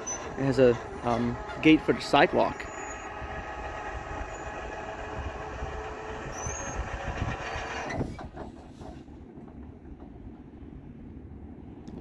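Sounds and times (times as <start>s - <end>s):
freight train cars rumbling: 0.0s - 12.0s.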